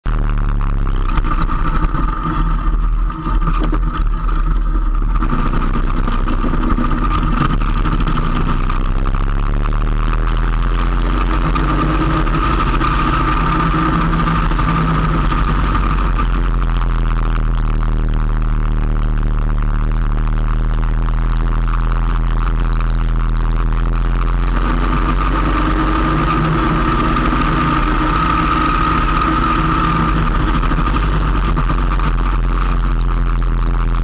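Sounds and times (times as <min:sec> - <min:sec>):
motorcycle engine running: 0:00.0 - 0:34.0
road and wind noise: 0:00.0 - 0:34.0.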